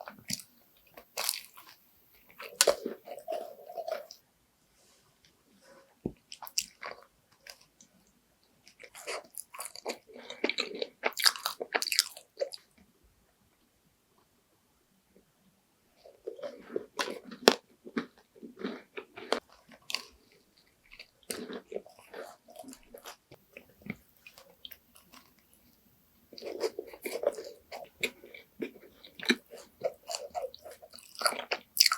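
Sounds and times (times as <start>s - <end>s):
crunching and chewing a macaron: 0.0s - 4.2s, 6.2s - 8.0s, 8.6s - 12.8s, 16.0s - 31.9s.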